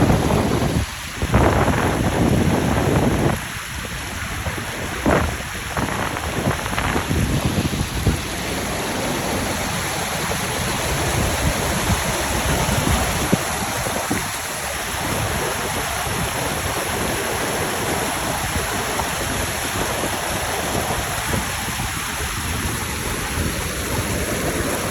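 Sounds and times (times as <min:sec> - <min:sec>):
small waterfall rushing: 0:00.0 - 0:24.9.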